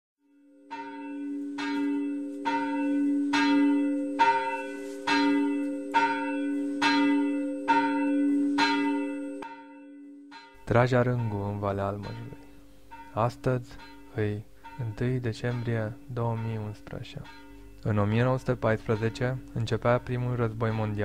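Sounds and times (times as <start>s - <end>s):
church bell tolling: 0.3s - 21.0s.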